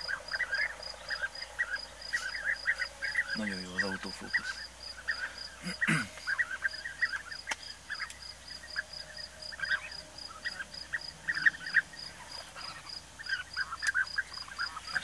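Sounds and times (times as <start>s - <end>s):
bee-eaters calling: 0.0s - 15.0s.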